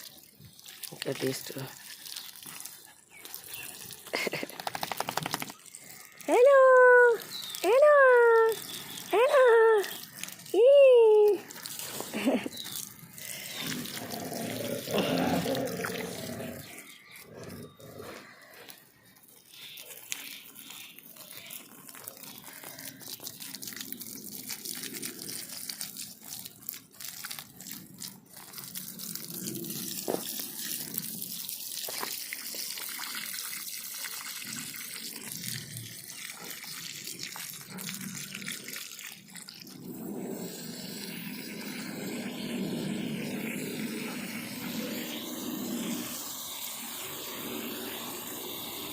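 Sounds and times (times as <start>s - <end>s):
water splashing and trickling: 0.0s - 48.9s.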